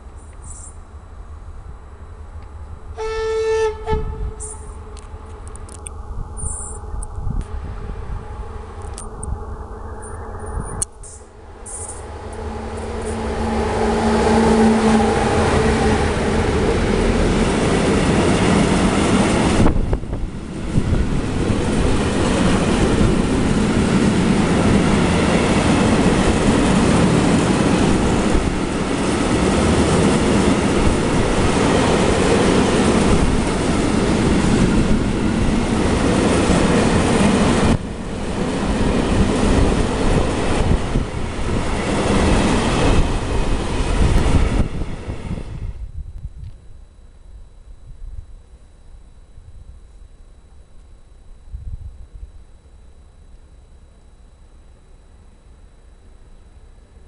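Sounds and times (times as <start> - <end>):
locomotive pitched hum: 0.0 - 57.0.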